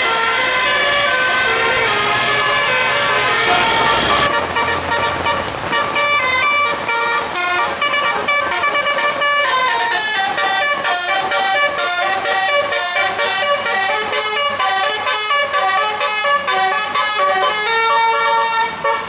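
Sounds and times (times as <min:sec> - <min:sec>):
bus engine running: 0:00.0 - 0:19.0
musical bus horn playing a tune: 0:00.0 - 0:19.0.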